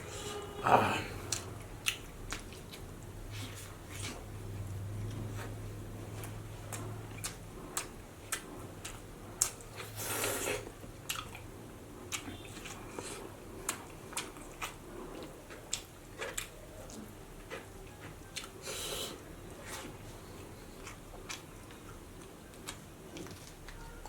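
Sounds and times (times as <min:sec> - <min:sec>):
person chewing with wet smacks: 0:01.2 - 0:23.9.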